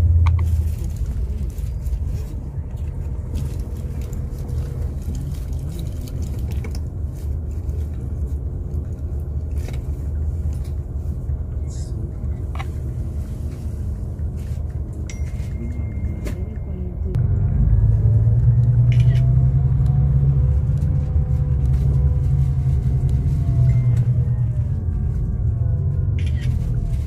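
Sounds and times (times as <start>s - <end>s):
bus engine and tyres rumbling: 0.0s - 27.0s.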